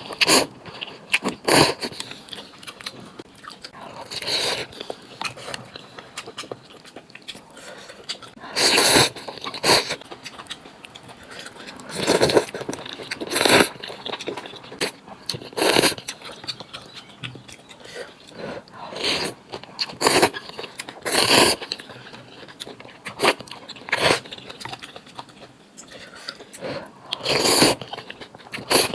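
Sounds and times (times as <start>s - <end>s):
person slurping and chewing: 0.0s - 28.9s.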